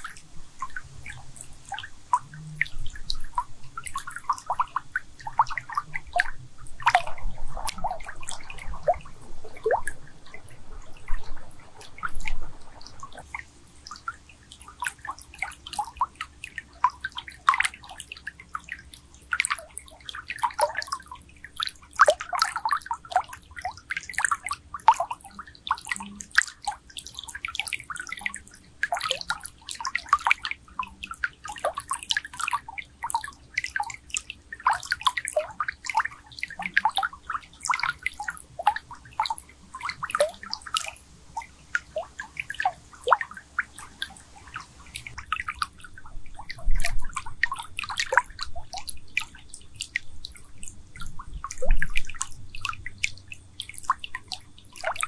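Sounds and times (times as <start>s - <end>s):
faint low hum: 0.0s - 55.0s
underwater bubbling and gurgling: 0.0s - 55.0s.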